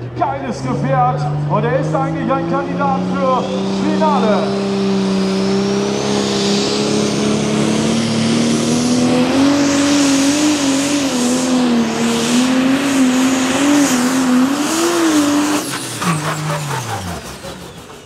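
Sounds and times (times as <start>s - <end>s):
diesel tractor engine at full throttle: 0.0s - 18.0s.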